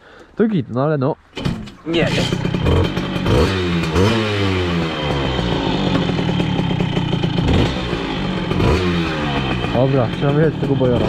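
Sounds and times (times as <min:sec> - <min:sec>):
two-stroke engine revving: 0:02.0 - 0:11.0.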